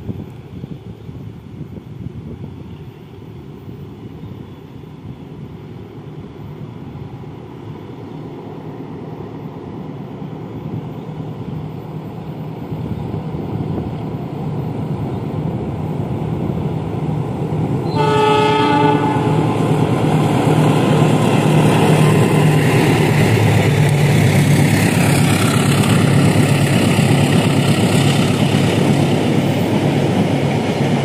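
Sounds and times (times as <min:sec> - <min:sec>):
diesel locomotive engine drone: 0:00.0 - 0:31.0.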